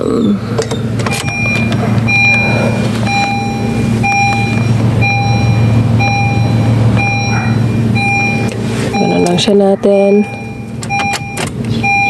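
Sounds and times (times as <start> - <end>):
car engine idling: 0.0 - 12.0
dashboard warning chime beeping: 0.6 - 12.0.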